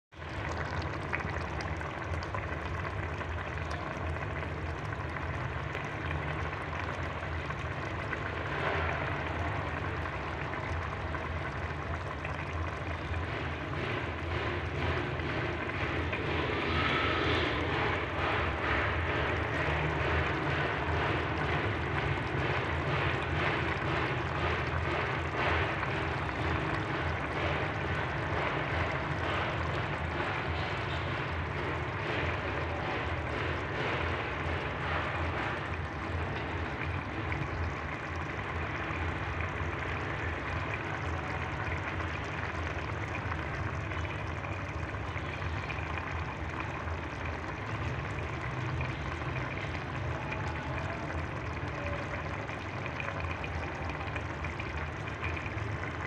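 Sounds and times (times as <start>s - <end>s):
curry bubbling in a pot: 0.1s - 56.0s.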